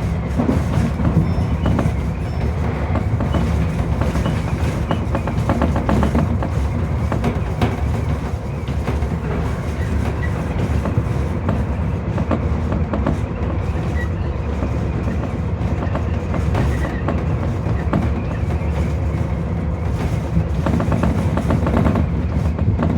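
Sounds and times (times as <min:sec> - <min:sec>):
train wheels rumbling: 0:00.0 - 0:22.9
wheels clicking over rail joints: 0:00.0 - 0:22.9.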